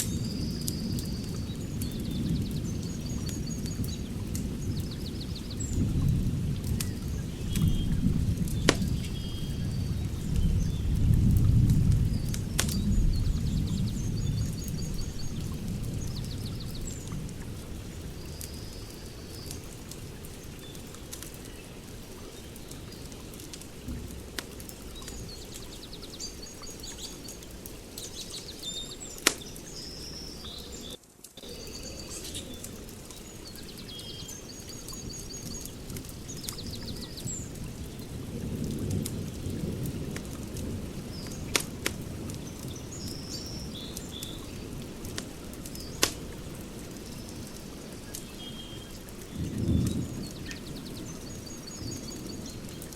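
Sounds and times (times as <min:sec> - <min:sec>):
small birds chirping: 0:00.0 - 0:52.9
wood fire crackling and popping: 0:00.0 - 0:52.9.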